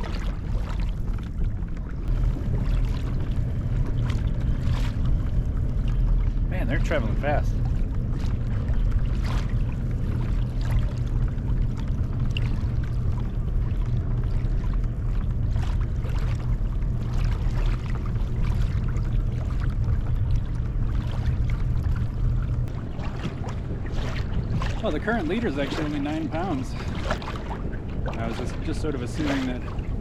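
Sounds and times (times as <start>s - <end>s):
low rumble: 0.0s - 30.0s
water splashing against kayak hull: 0.0s - 30.0s.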